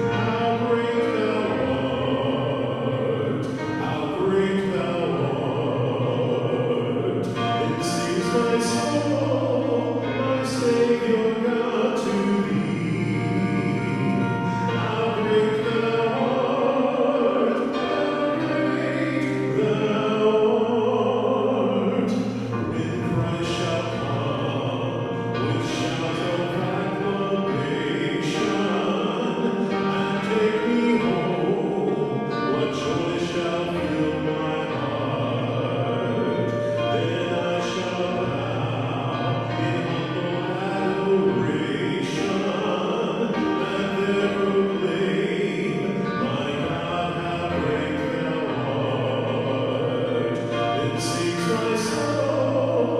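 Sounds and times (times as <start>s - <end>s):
church singing with accompaniment: 0.0s - 52.9s.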